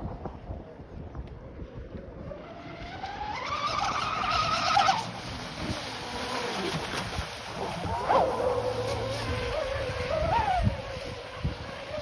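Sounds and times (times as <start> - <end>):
model boat motor whining: 2.3 - 12.0.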